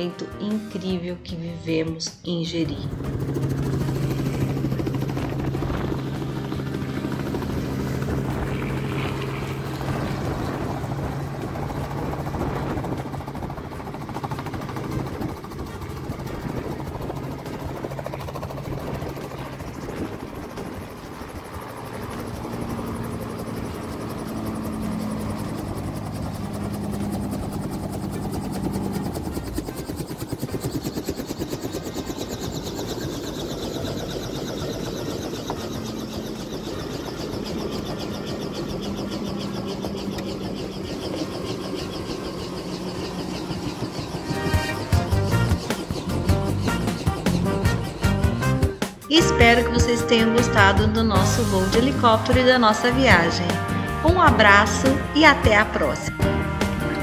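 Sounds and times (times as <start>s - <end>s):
helicopter engine tone: 0.0s - 57.0s
helicopter rotor chopping: 0.0s - 57.0s.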